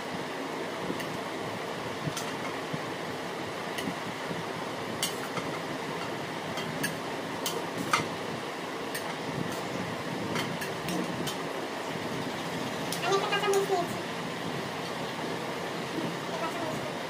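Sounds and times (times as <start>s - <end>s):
fan whirring: 0.0s - 17.0s.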